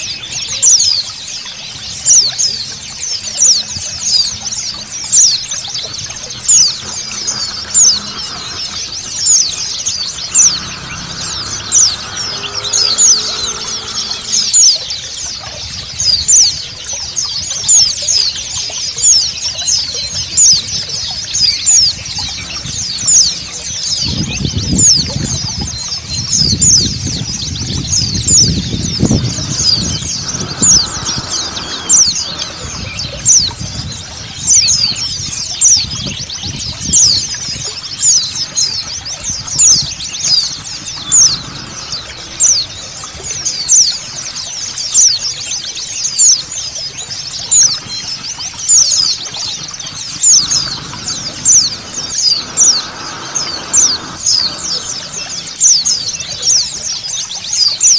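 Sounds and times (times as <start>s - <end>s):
flock of birds chirping: 0.0s - 57.9s
running water hiss: 0.0s - 57.9s.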